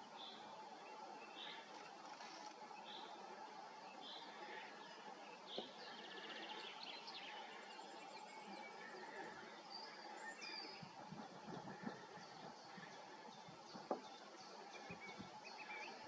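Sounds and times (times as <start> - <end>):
birds chirping and trilling: 0.0 - 16.0
steady low hiss: 0.0 - 16.0.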